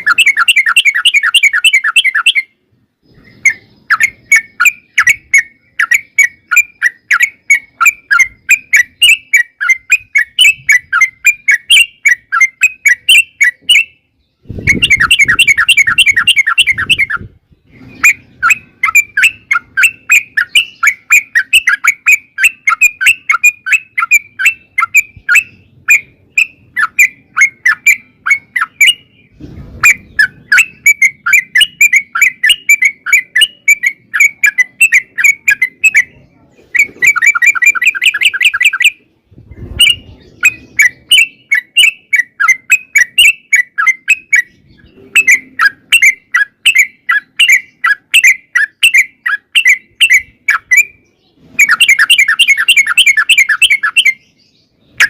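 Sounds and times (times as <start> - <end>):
bird singing chattering notes: 0.0 - 55.0.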